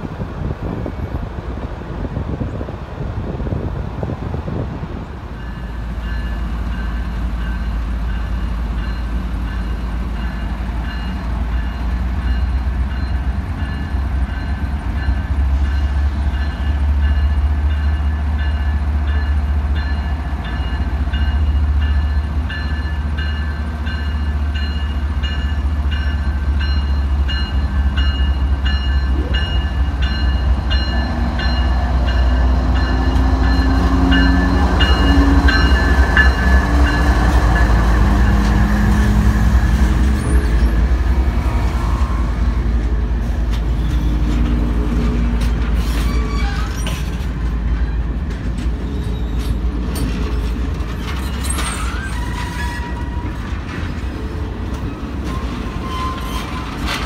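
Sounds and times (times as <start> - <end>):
train rumbling by: 0.0 - 57.0.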